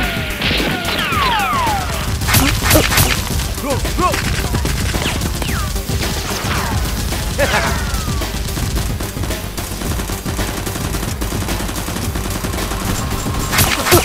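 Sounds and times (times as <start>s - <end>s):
gunfire shots: 0.1s - 14.0s.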